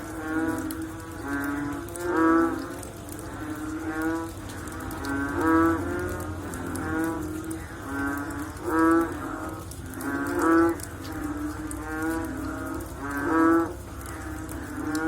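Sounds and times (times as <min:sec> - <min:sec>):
frogs calling: 0:00.0 - 0:15.0.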